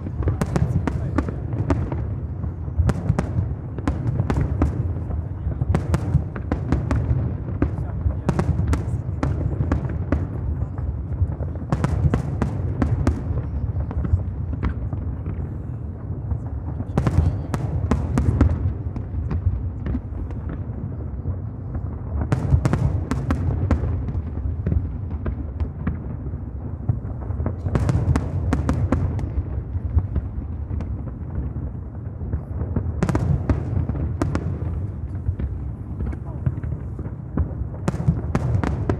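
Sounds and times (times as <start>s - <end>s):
firework bangs: 0.0s - 38.9s
firework crackles: 0.0s - 38.9s.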